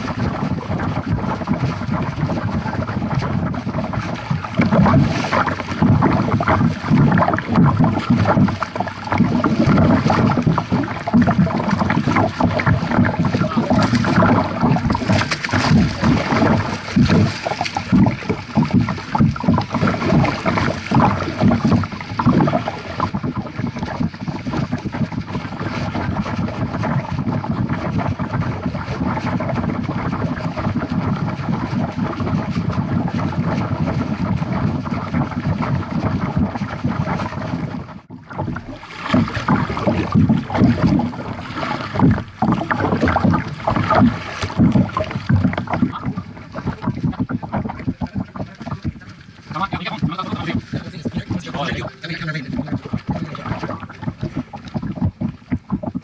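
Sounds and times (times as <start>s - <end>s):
water splashing against kayak hull: 0.0s - 56.0s.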